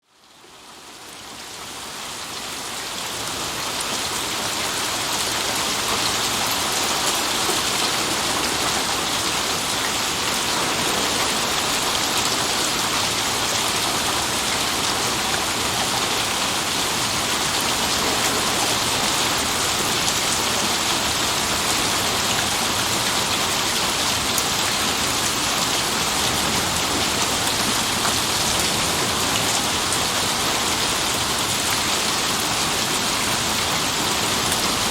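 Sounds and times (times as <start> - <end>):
rain falling steadily: 0.0 - 34.9.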